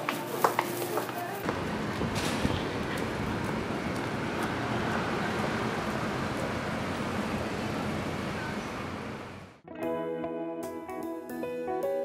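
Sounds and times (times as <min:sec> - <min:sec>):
city street traffic: 0:00.0 - 0:09.6.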